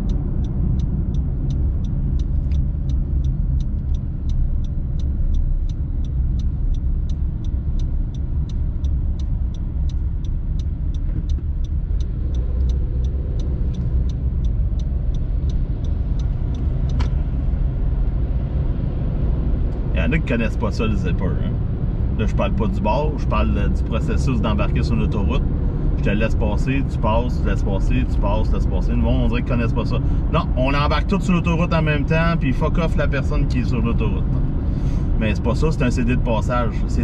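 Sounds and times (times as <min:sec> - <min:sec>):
car road and engine rumble: 0:00.0 - 0:37.0
turn signal ticking: 0:00.0 - 0:37.0.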